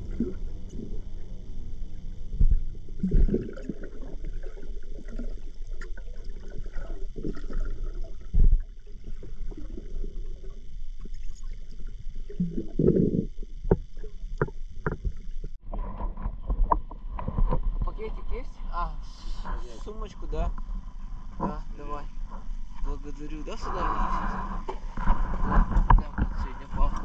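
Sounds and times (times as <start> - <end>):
muffled underwater rumbles and knocks: 0.0 - 18.7, 19.5 - 27.0.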